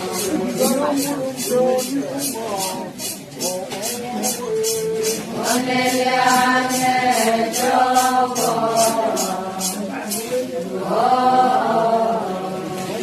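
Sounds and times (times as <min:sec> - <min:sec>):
voices singing held notes: 0:00.0 - 0:13.0.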